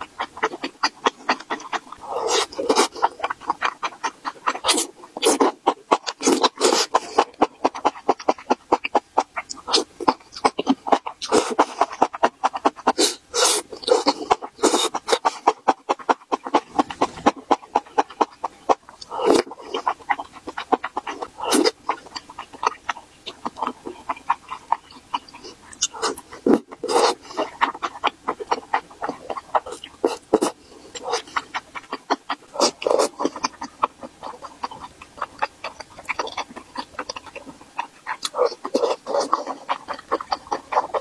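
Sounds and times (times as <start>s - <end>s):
mushroom slurping: 0.0s - 41.0s
wet chewing mouth noises: 0.0s - 41.0s.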